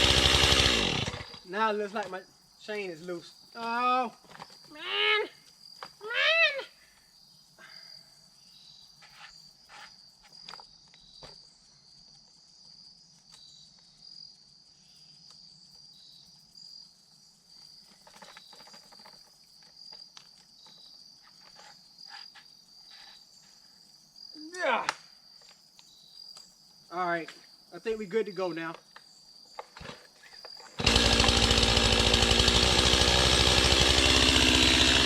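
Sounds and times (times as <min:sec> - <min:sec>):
high-pitched insect chorus: 0:01.1 - 0:30.8.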